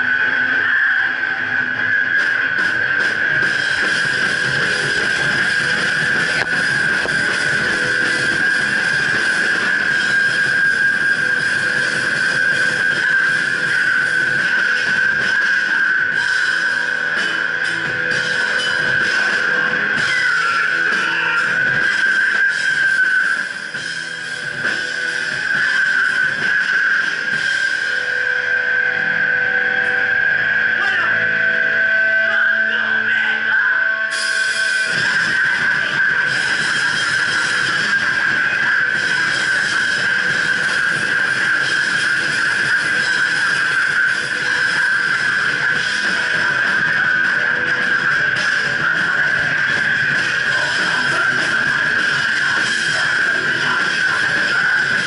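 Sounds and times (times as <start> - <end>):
distorted electric guitar music: 0.0 - 55.0.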